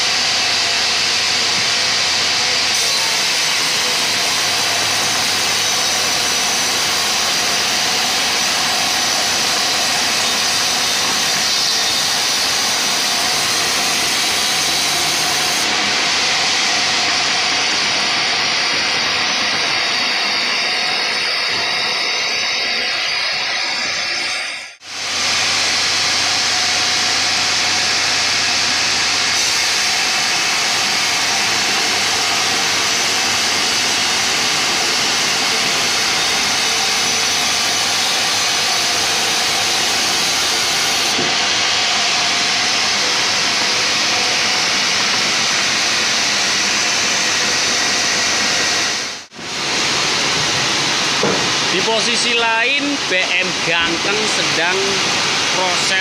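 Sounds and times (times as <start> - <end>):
band saw cutting through log: 0.0 - 56.0.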